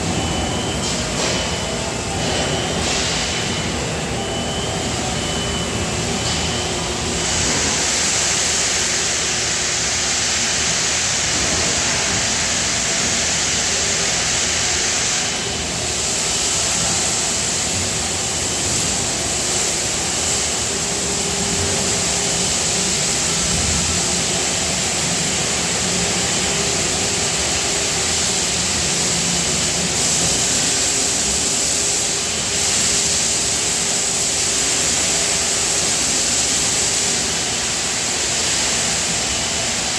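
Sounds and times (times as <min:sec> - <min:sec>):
loud machinery hiss: 0:00.0 - 0:39.9.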